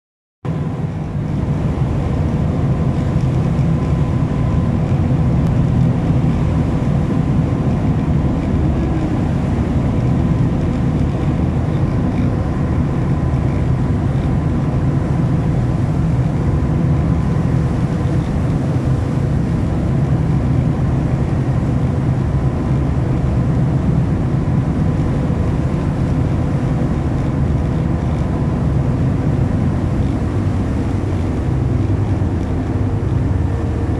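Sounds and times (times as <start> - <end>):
ferry engines droning: 0.5 - 33.9.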